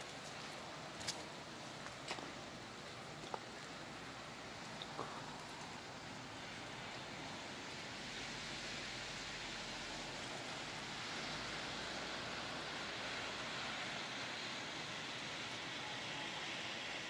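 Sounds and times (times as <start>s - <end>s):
hiss of heavy wet snowfall: 0.0s - 17.0s.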